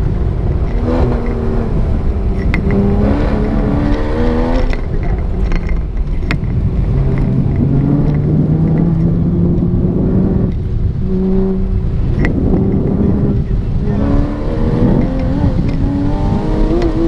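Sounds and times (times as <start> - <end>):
sports car engine revving: 0.2 - 5.3, 6.5 - 17.0.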